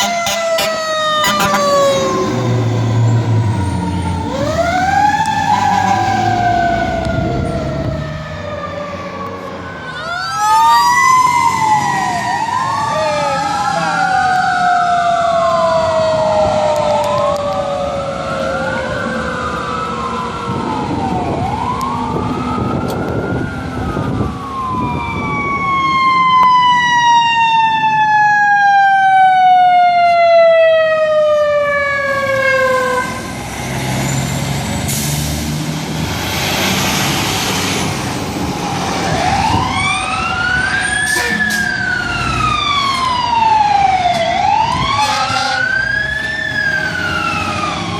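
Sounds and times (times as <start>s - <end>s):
fire engine sirens wailing: 0.0s - 47.9s.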